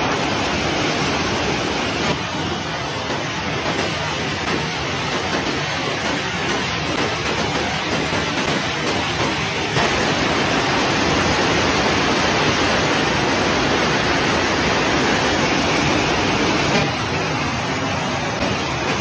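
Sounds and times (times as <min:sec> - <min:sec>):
rushing floodwater: 0:00.0 - 0:19.0.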